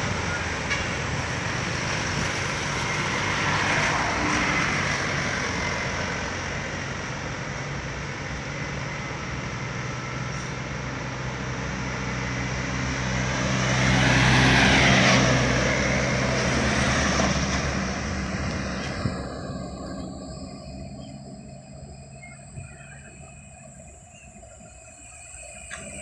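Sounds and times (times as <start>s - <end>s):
bus engine passing: 0.0s - 26.0s
hum of vehicle engines: 0.0s - 26.0s.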